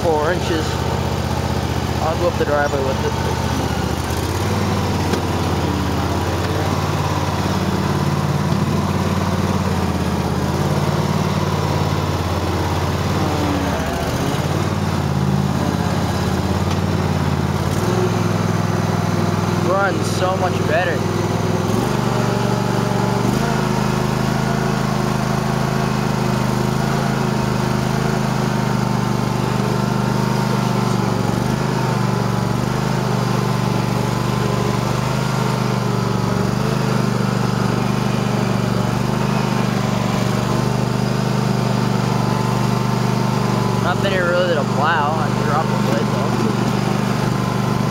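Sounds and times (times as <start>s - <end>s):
garden tractor engine running: 0.0s - 47.9s.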